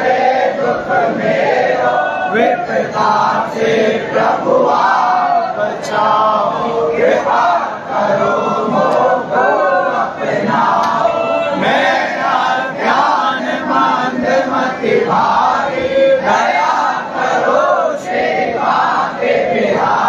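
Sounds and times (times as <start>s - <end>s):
crowd chanting and calling out: 0.0s - 20.0s.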